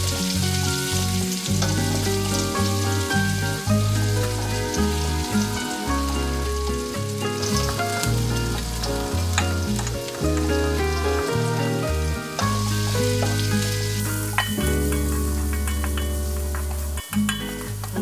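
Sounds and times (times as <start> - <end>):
background music with bass: 0.0 - 18.0
food sizzling in oil: 0.0 - 18.0
spatula scraping wok: 0.0 - 18.0.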